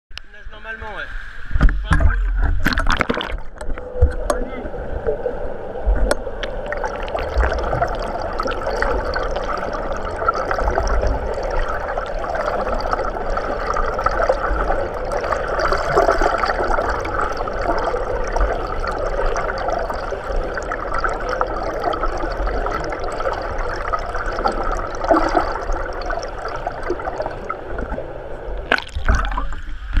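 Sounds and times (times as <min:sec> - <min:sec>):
muffled underwater water wash: 0:01.0 - 0:30.0.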